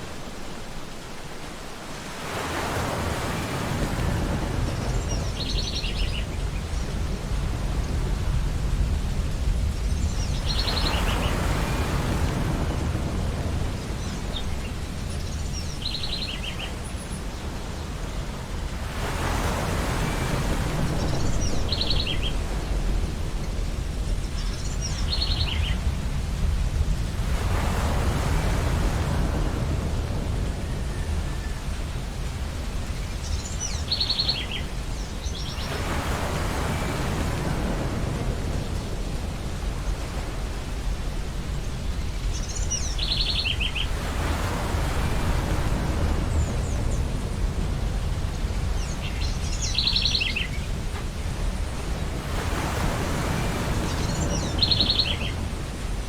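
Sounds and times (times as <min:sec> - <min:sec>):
ocean waves breaking: 0:00.0 - 0:56.0
surf rumble: 0:00.0 - 0:56.0.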